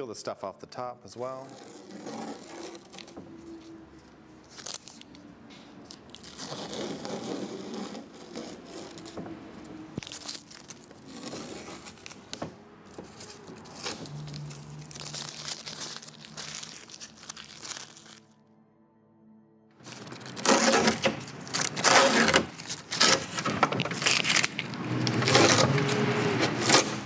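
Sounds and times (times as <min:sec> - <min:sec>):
masking tape peeling: 0:01.2 - 0:18.3, 0:19.8 - 0:27.0
tape crumpling: 0:01.2 - 0:18.4, 0:19.8 - 0:27.0.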